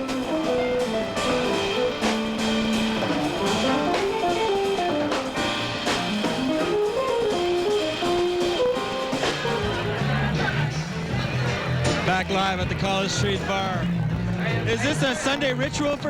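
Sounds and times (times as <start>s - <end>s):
jazz quartet playing: 0.0s - 14.6s.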